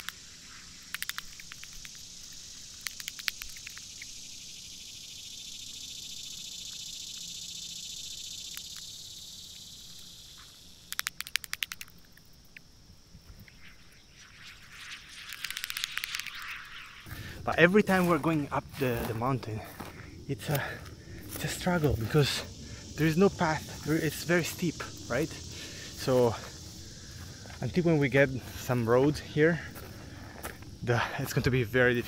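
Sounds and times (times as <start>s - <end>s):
steady high hiss: 0.0s - 32.0s.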